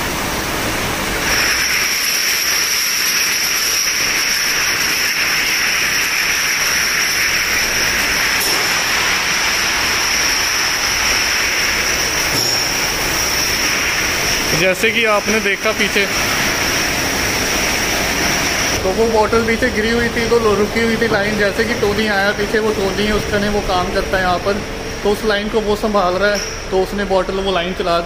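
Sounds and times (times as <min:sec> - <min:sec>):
conveyor machinery hiss and whir: 0:00.0 - 0:28.0
high machine whine: 0:00.0 - 0:28.0.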